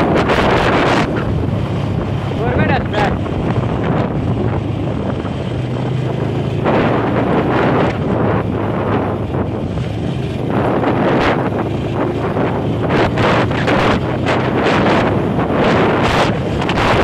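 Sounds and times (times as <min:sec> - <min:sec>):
motorcycle engine hum: 0:00.0 - 0:17.0
wind buffeting microphone: 0:00.0 - 0:17.0.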